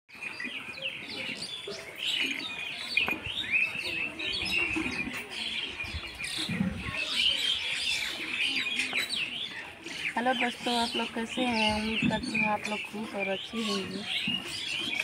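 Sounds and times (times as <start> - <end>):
birds chirping: 0.1 - 15.0.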